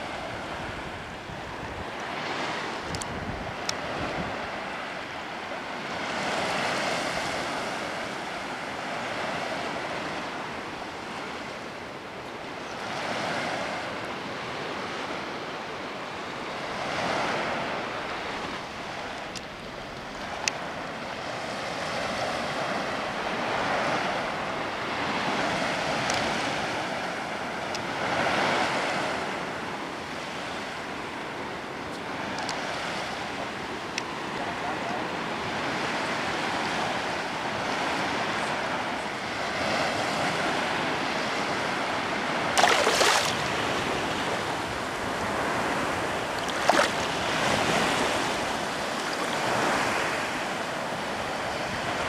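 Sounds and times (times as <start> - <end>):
waves lapping on sandy shore: 0.0 - 52.0.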